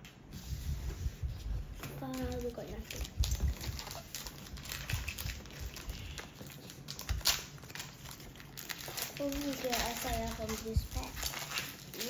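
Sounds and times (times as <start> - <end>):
foil wrapper crinkling: 2.0 - 12.0.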